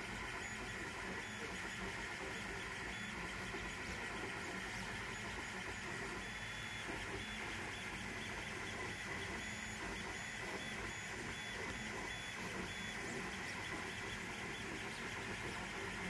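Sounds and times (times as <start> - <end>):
printer motors whirring: 0.0 - 16.0.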